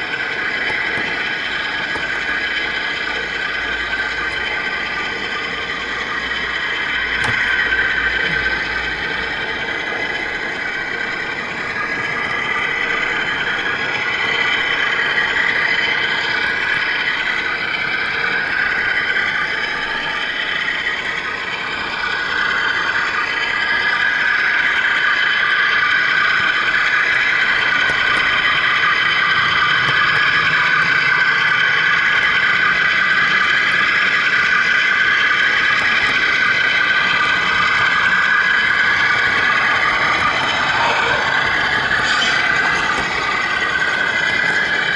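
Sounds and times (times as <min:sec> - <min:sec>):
model train motor whine: 0:00.0 - 0:44.9
wheels on rails: 0:00.0 - 0:44.9.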